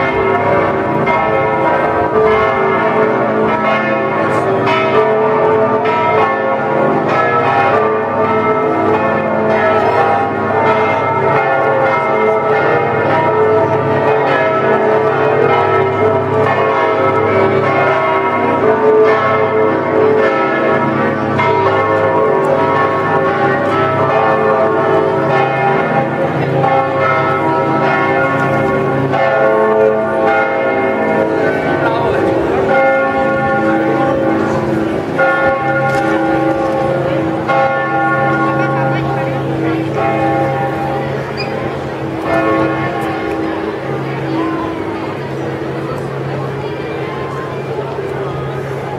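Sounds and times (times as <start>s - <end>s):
church bells pealing: 0.0s - 48.9s.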